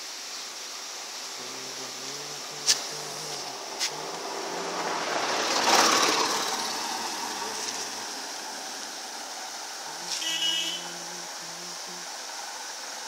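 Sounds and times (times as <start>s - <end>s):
vehicle passing by: 1.4s - 12.8s.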